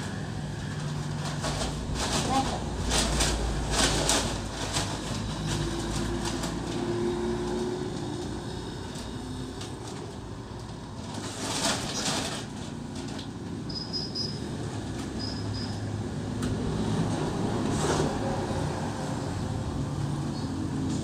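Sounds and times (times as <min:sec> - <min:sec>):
passing traffic rumble: 0:00.0 - 0:21.0.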